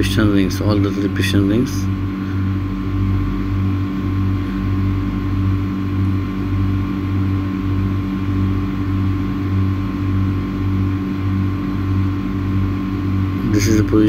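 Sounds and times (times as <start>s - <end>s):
machinery pulsing hum: 0.0s - 14.0s
thin steady whine: 0.0s - 14.0s.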